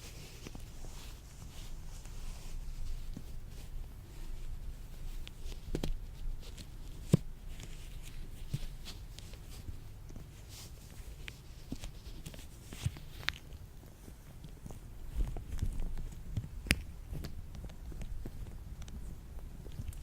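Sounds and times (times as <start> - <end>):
latex gloves rubbing: 0.0 - 19.2.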